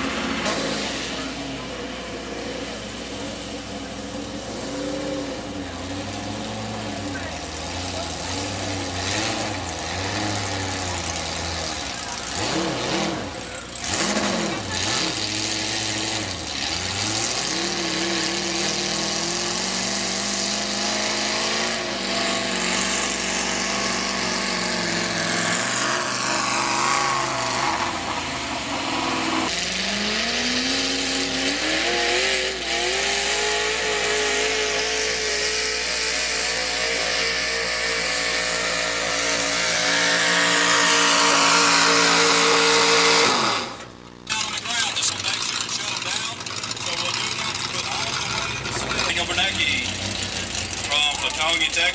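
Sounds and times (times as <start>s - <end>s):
tractor engines at full throttle: 0.0s - 51.9s.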